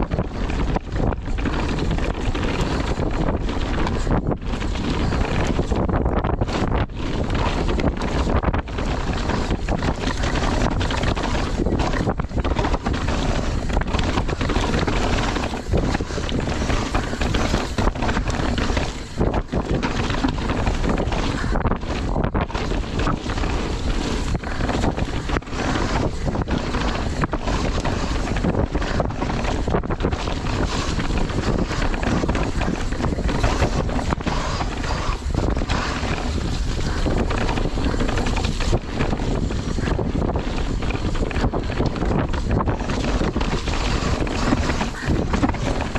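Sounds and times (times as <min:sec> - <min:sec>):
bike knocks and rattles: 0:00.0 - 0:45.9
bike tyres rushing over dirt: 0:00.0 - 0:45.9
wind buffeting microphone: 0:00.0 - 0:45.9.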